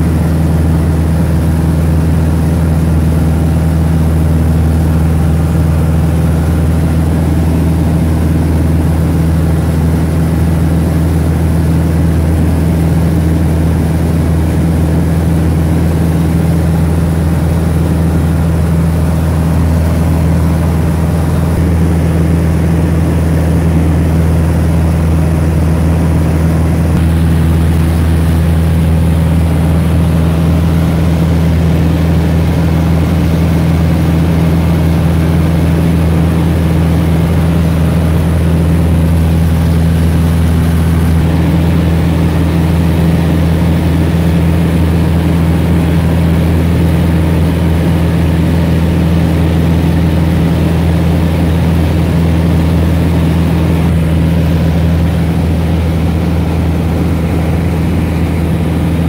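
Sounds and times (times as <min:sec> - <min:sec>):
light airplane engine droning: 0:00.0 - 0:59.0.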